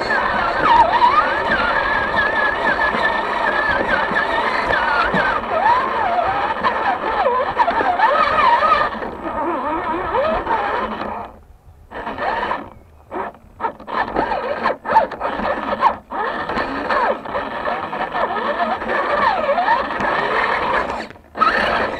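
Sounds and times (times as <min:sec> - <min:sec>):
electric motor and gearbox whining: 0:00.0 - 0:21.9.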